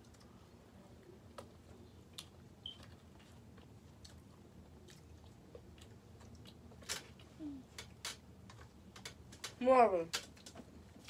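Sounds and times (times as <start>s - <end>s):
people chewing: 0.0s - 9.3s.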